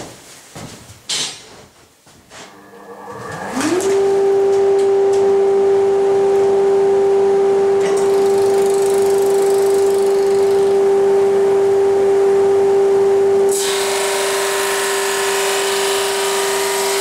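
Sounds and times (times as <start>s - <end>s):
electric motor starting up: 2.5s - 17.0s.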